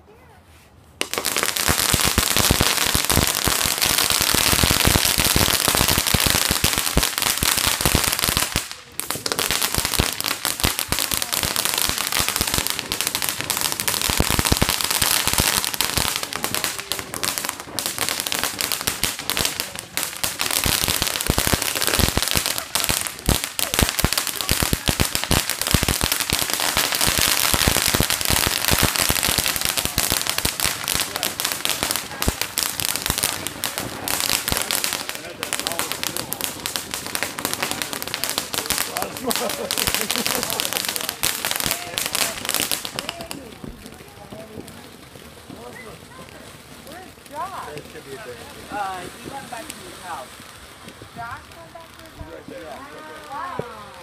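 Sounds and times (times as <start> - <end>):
firecracker pops and crackles: 0.9 - 54.0.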